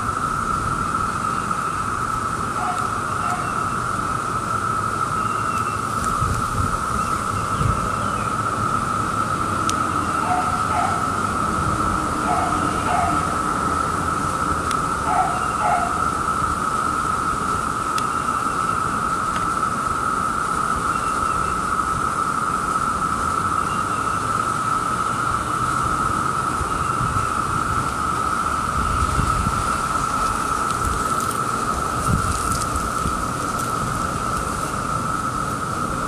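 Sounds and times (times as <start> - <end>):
cicadas droning: 0.0 - 36.0.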